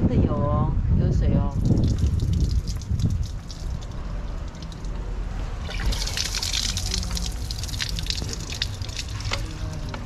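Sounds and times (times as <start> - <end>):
water drips: 1.5 - 10.0
water splashing from pump spout: 1.5 - 10.0.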